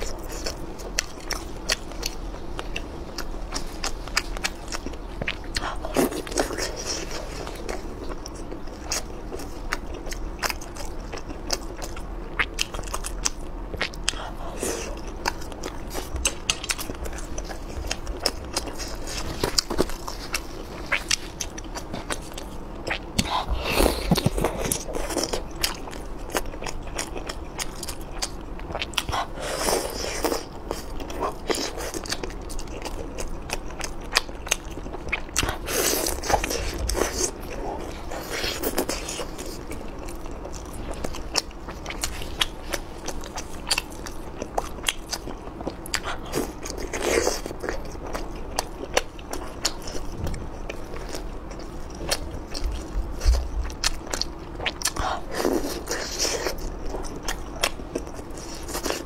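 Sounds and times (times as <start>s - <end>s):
food crunching: 0.0s - 59.0s
person biting and chewing: 0.0s - 59.0s.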